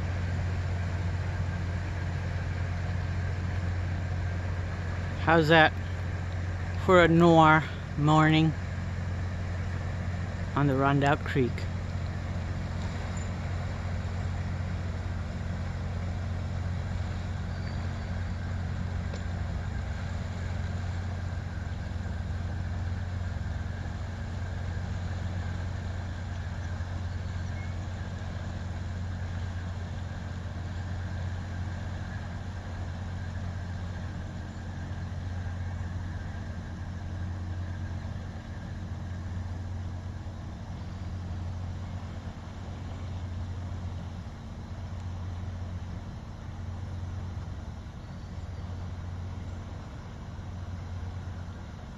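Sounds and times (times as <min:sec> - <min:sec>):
ship engines humming: 0:00.0 - 0:51.9.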